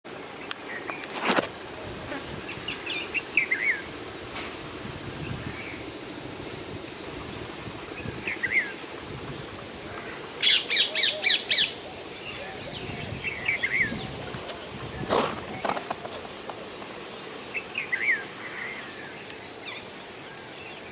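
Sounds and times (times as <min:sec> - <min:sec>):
insect trill: 0:00.1 - 0:20.9.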